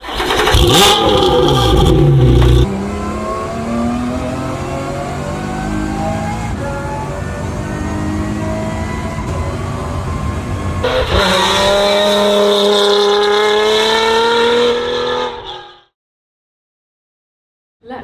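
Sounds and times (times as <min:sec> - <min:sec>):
engine note rising in pitch: 0:00.4 - 0:15.4.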